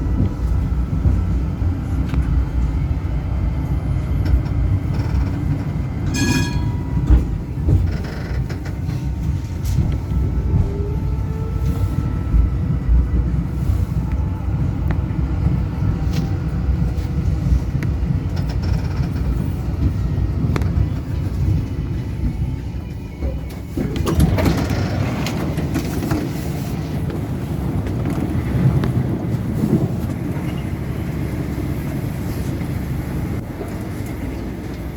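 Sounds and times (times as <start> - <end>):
tram rumbling: 0.0 - 34.9
wheels clicking over rail joints: 3.8 - 11.8, 14.8 - 34.9.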